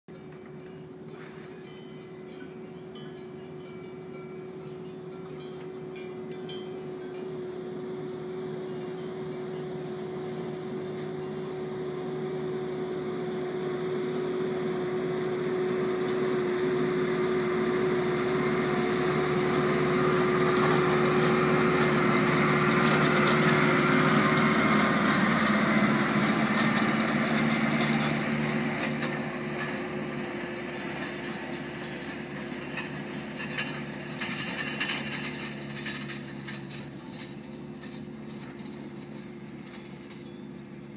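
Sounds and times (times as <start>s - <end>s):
diesel engine whining: 0.1s - 40.9s.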